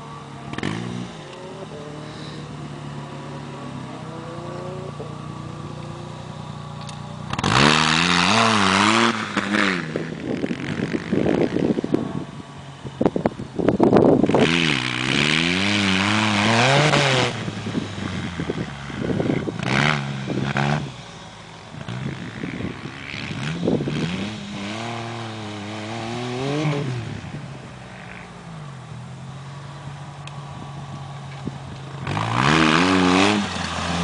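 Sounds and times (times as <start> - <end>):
buggy engine revving: 0.0 - 34.0.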